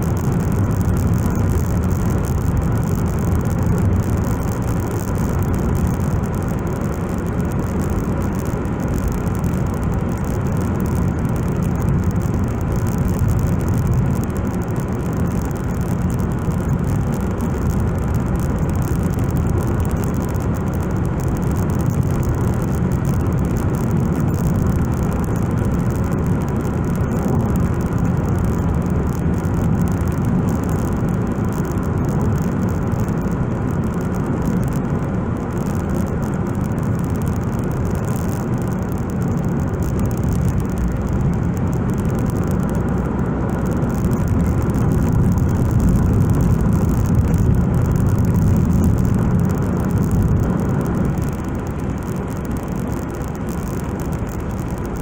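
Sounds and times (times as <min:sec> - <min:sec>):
car engine rumble: 0:00.0 - 0:55.0
tyres on asphalt: 0:00.0 - 0:55.0.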